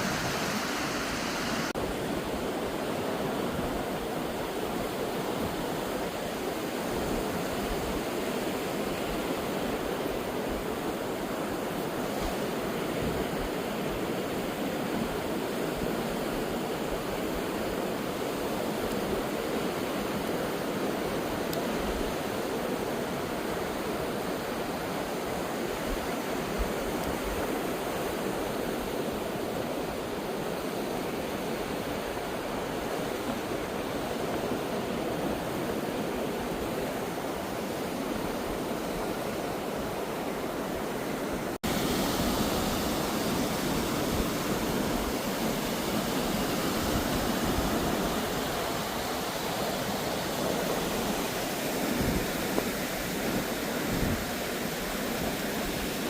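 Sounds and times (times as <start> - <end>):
ocean surf rushing: 0.0 - 56.0.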